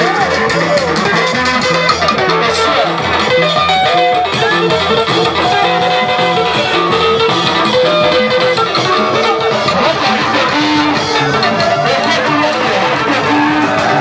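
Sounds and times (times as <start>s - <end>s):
bass guitar: 0.0s - 14.0s
electric guitar melody: 0.0s - 14.0s.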